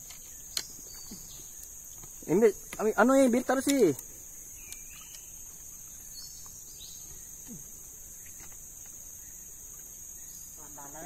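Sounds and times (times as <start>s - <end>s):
faint bird chirps: 0.0s - 3.5s, 4.1s - 11.0s
high-pitched insect chorus: 0.0s - 11.0s.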